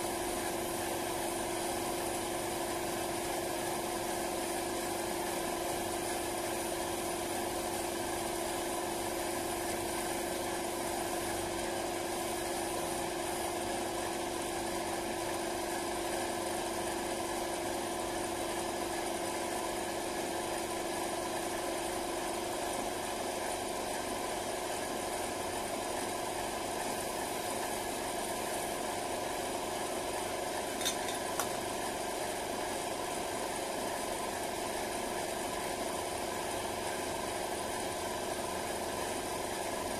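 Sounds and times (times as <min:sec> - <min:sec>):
air compressor humming and hissing: 0:00.0 - 0:39.9.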